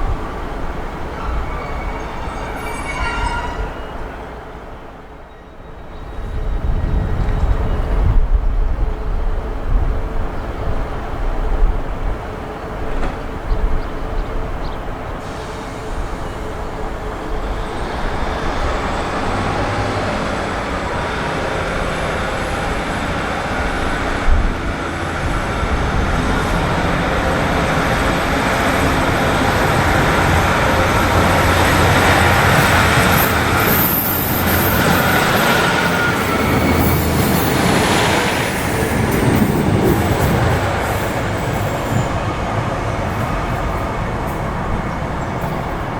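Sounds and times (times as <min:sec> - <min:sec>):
train running noise: 0:00.0 - 0:45.9.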